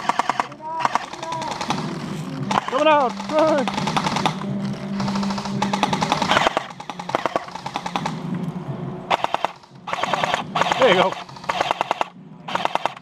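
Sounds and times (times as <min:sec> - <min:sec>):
airsoft guns firing: 0:00.0 - 0:08.3, 0:09.1 - 0:13.0.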